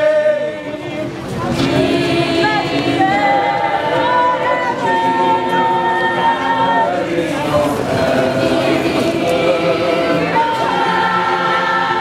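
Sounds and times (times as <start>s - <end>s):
chorus singing a cappella: 0.0s - 12.0s.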